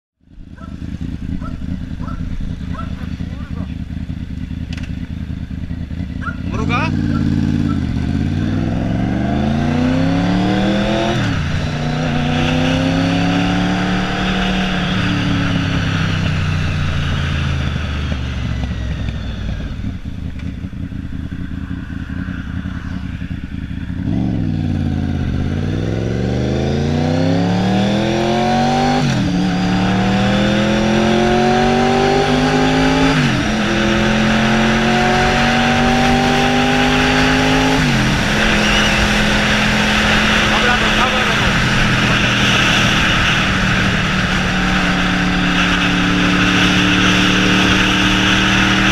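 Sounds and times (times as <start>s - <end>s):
motorcycle engine accelerating: 0.2s - 48.9s.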